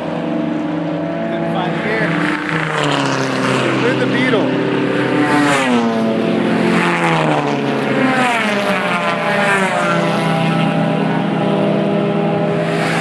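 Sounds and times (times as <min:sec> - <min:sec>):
race cars passing at high revs: 0:00.0 - 0:13.0.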